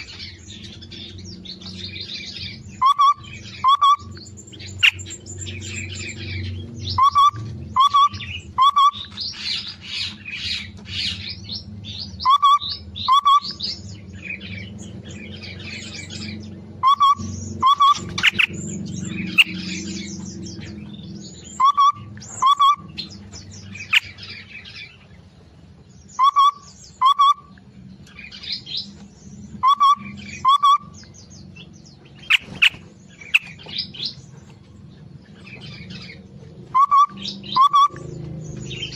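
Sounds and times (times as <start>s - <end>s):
cage birds chirping: 0.0s - 38.9s.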